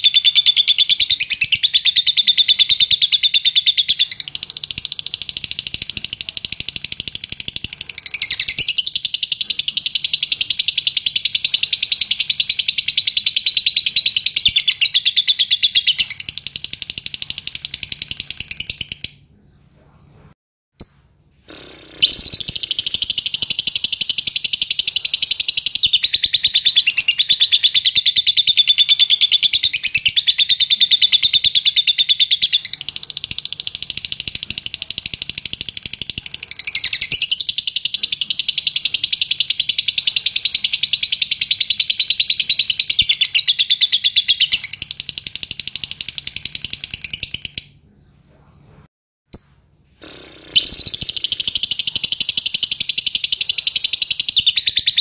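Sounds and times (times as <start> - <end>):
lovebird chattering trill: 0.0 - 19.2, 20.8 - 47.7, 49.3 - 55.0.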